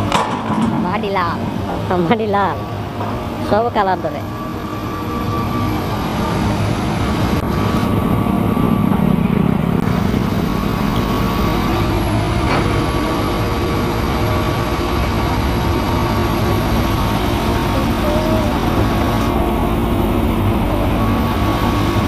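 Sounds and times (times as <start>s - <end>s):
excavator diesel engines droning: 0.0s - 22.0s.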